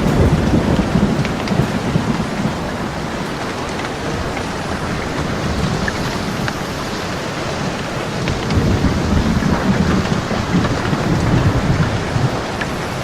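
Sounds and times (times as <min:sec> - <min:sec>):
steady rain: 0:00.0 - 0:13.0
thunder rolling: 0:00.0 - 0:13.0.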